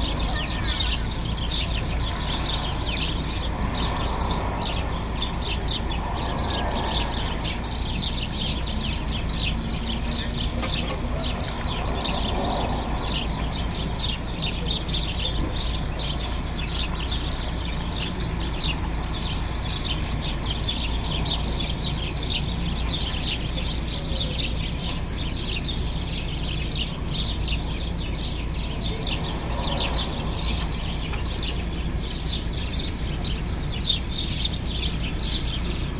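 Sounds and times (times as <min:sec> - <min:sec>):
sparrows chirping: 0:00.0 - 0:35.9.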